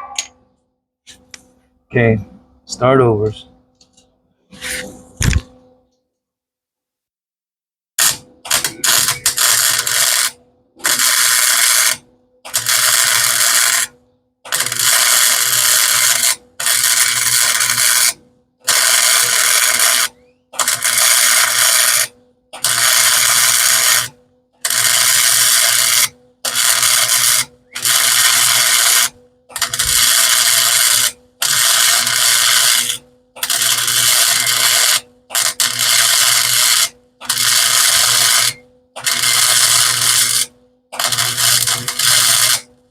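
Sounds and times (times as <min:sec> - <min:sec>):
welding arc crackling: 0:08.0 - 0:42.7.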